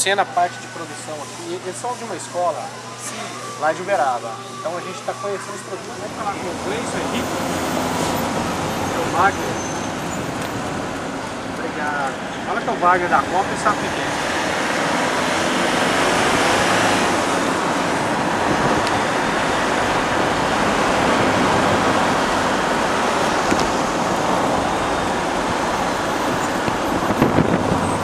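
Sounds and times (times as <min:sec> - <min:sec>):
road and wind noise from vehicle: 0:03.6 - 0:28.0.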